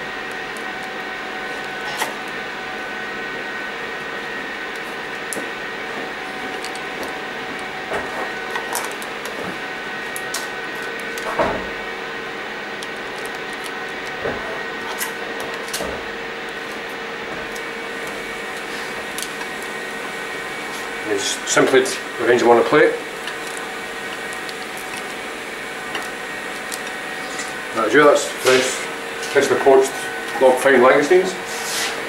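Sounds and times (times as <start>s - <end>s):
kitchen ventilation hum: 0.0s - 32.0s.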